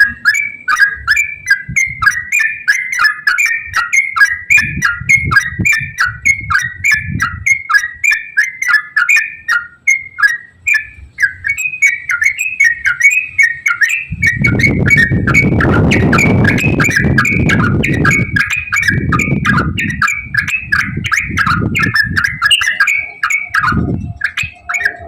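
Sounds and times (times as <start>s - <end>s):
bird singing chirping whistled notes: 0.0s - 25.0s.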